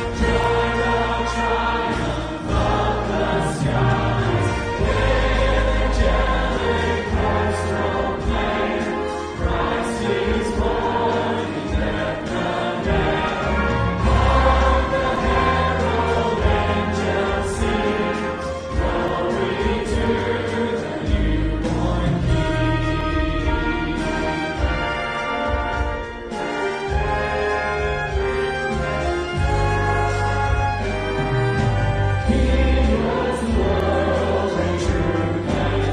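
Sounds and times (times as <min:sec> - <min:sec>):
choir singing a carol: 0:00.0 - 0:35.9
musical accompaniment: 0:00.0 - 0:35.9.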